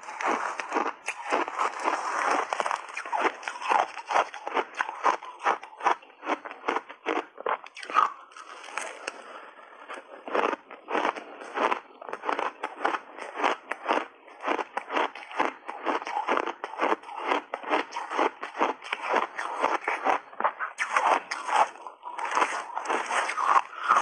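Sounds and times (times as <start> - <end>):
shaved ice being chewed: 0.0 - 24.0.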